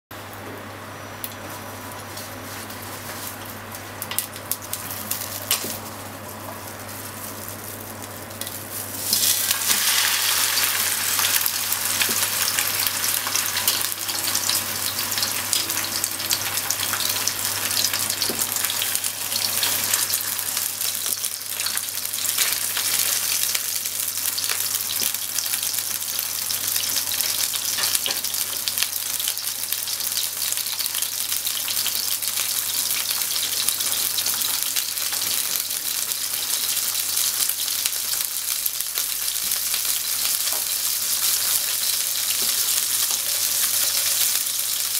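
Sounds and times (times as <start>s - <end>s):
hot oil crackling and popping: 1.2s - 44.9s
fish sizzling in oil: 2.3s - 44.9s.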